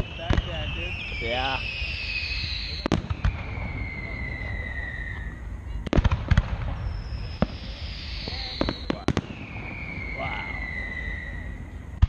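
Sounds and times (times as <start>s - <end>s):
distant fireworks bangs: 0.0s - 12.0s
steady low rumble: 0.0s - 12.0s.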